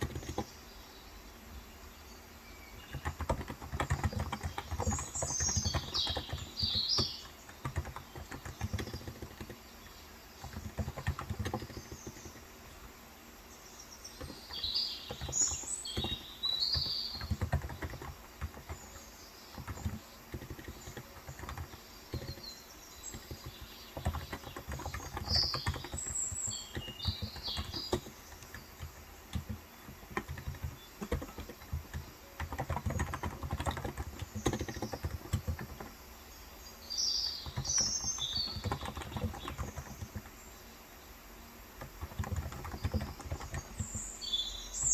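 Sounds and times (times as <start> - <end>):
soft keyboard keystrokes: 0.0 - 0.5, 2.8 - 12.9, 14.0 - 35.9, 37.4 - 40.4, 41.8 - 44.0
bird chirps: 0.0 - 41.2, 42.0 - 44.9.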